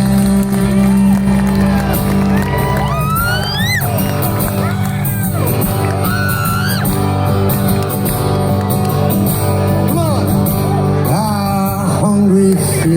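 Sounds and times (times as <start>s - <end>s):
live rock band playing: 0.0s - 12.9s.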